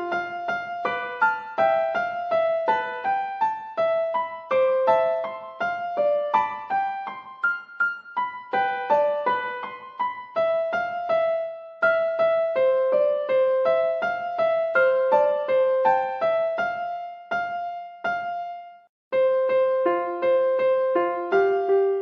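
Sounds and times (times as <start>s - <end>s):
gentle piano-like keyboard melody: 0.0s - 22.0s.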